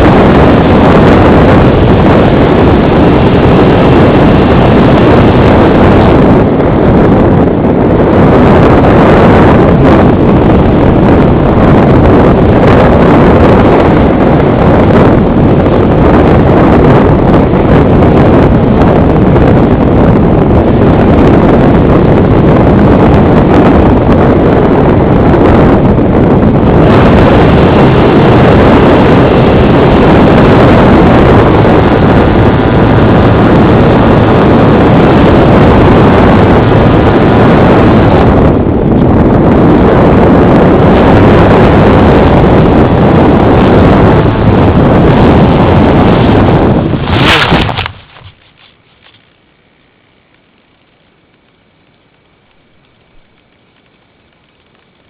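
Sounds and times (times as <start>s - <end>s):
motor and propeller running: 0.0s - 55.0s
wind buffeting microphone: 0.0s - 55.0s.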